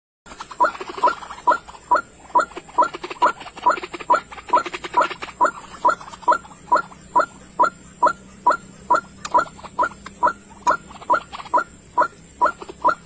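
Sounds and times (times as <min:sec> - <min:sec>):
bird calling: 0:00.3 - 0:13.0
steady high hiss: 0:00.4 - 0:13.0.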